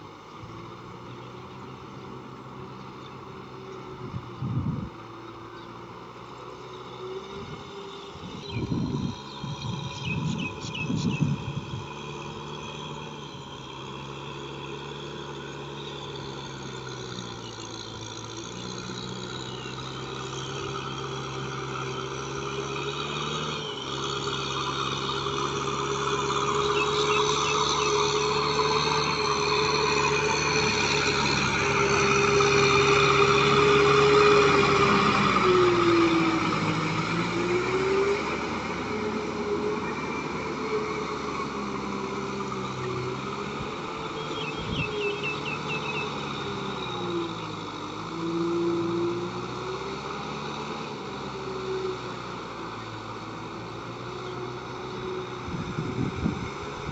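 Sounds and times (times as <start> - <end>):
rotary tiller churning mud: 0.0 - 56.9
tractor diesel engine under load: 0.0 - 56.9.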